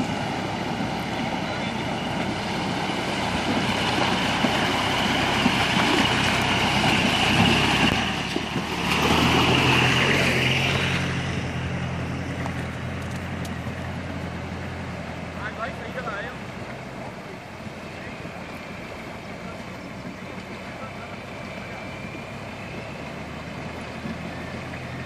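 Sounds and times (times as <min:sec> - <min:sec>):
jeep engine running: 0:00.0 - 0:25.0
water splashing around wheels: 0:00.0 - 0:25.0.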